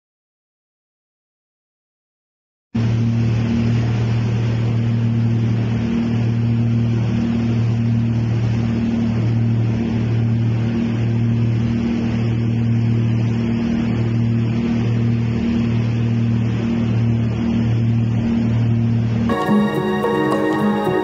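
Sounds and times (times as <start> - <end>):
boat engine running: 2.8 - 21.0.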